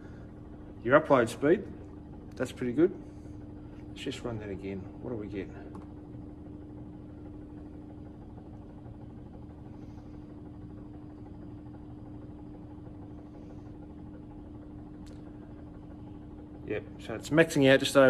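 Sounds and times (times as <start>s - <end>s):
constant tone hum: 0.0s - 18.0s.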